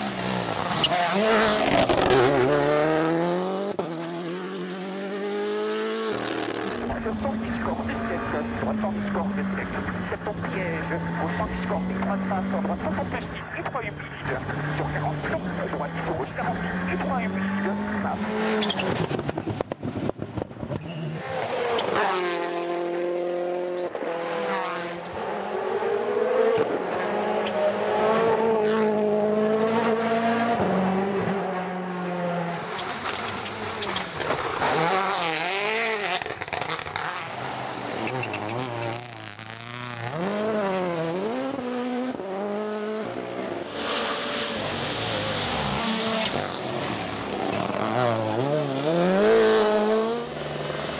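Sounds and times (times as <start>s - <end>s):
rally car engines revving: 0.0s - 50.9s.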